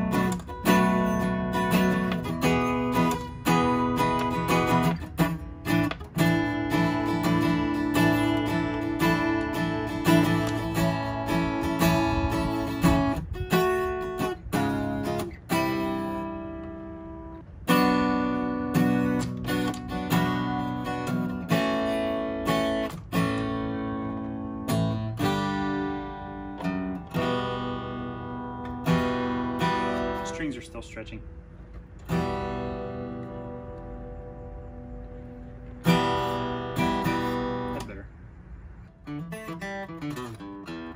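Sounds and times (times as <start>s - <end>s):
acoustic guitar strummed chords: 0.0s - 38.0s, 38.6s - 40.9s.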